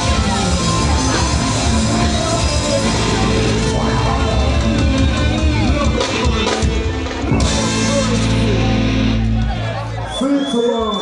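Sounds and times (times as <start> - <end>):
loud rock band music: 0.0 - 10.7.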